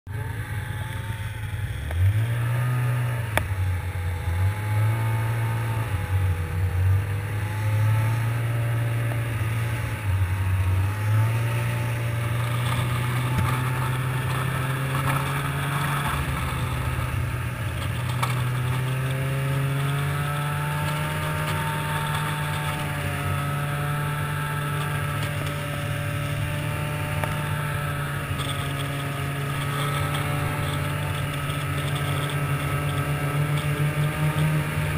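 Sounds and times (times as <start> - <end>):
snowmobile engine running: 0.1 - 34.9.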